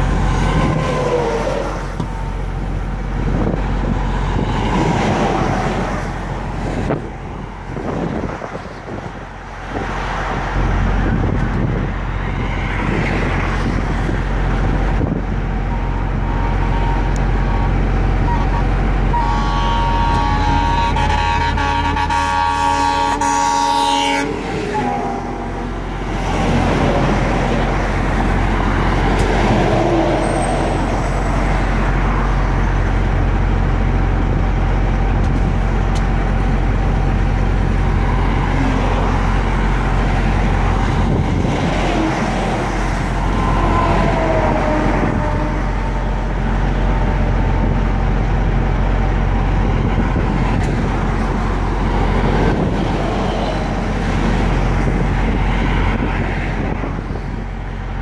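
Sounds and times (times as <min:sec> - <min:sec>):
freeway traffic: 0:00.0 - 0:58.0.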